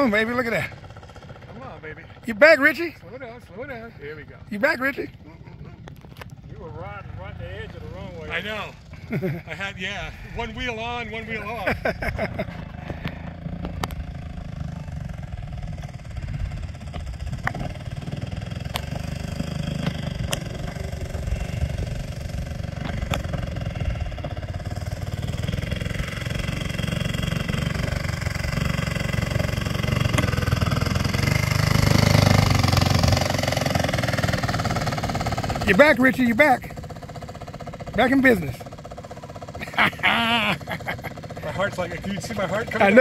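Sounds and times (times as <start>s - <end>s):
model airplane engine idling: 0.0s - 43.0s.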